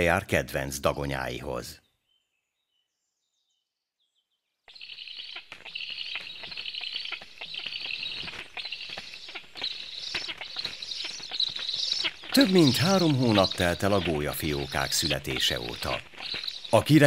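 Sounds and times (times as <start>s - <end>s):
birds chirping rapidly: 0.0s - 17.0s.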